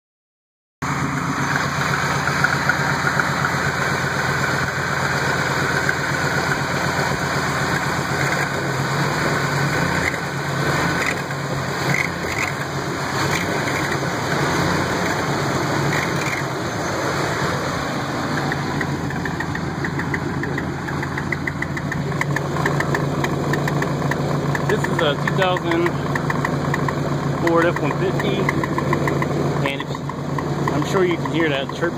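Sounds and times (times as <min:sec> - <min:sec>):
truck engine running: 0:00.8 - 0:31.9
fast exhaust leak chirping: 0:01.5 - 0:09.0, 0:10.0 - 0:31.9.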